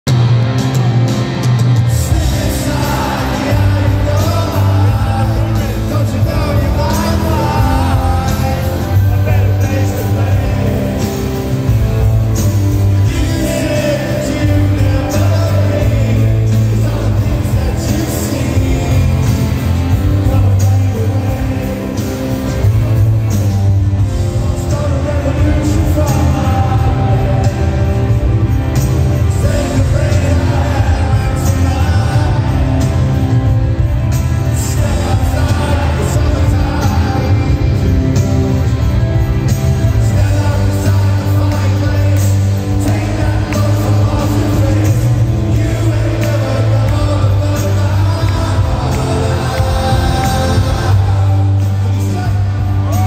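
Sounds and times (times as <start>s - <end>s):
rock band playing live: 0.0s - 53.0s
person singing: 1.9s - 53.0s.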